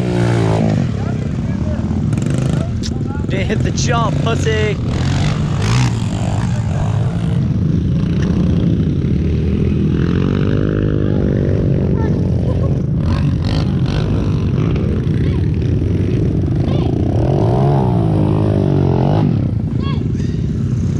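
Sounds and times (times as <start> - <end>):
small motorcycle engine revving: 0.0 - 20.9.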